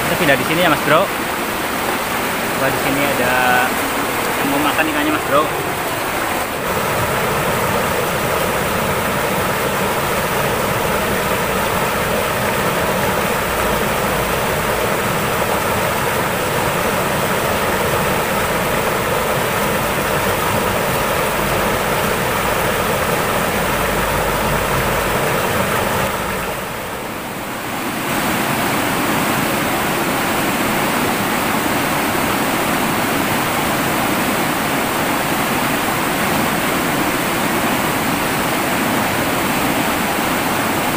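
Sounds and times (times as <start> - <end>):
river rushing over boulders: 0.0 - 40.9.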